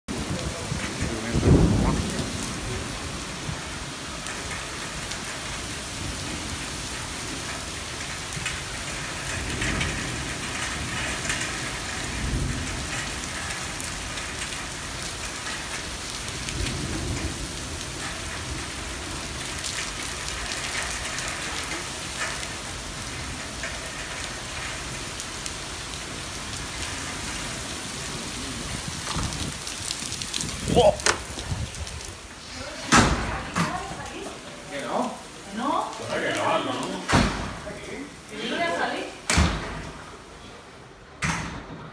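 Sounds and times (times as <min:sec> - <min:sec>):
heavy rain pouring: 0:00.0 - 0:41.2
thunder rumble: 0:00.1 - 0:34.6.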